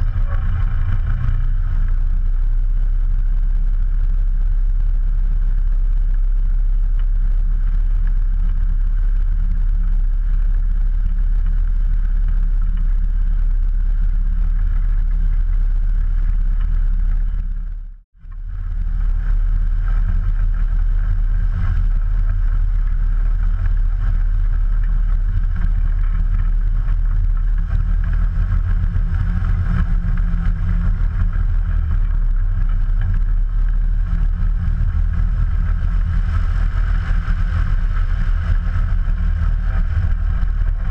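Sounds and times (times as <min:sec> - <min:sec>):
light aircraft engine and propeller drone: 0:00.0 - 0:40.9.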